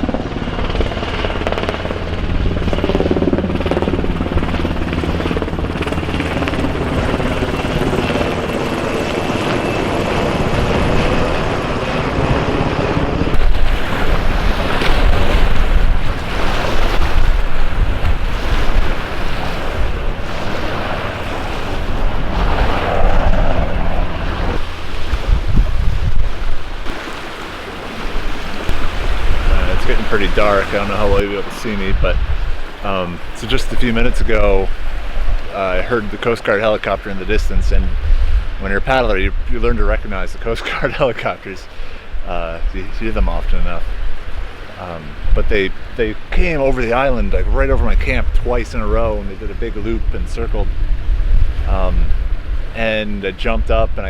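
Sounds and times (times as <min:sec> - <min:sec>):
helicopter rotor blades beating: 0:00.0 - 0:54.0
water noise: 0:00.0 - 0:54.0
wind: 0:00.0 - 0:54.0.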